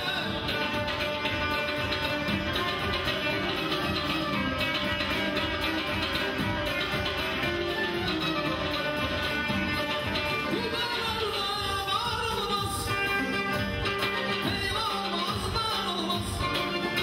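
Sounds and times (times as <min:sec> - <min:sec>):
band playing steady beat: 0:00.0 - 0:17.0.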